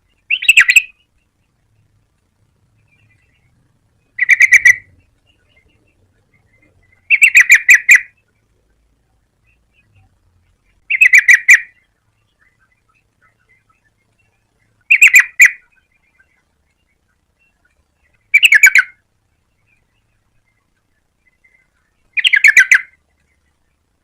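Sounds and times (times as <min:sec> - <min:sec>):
bulbul singing: 0:00.0 - 0:24.0.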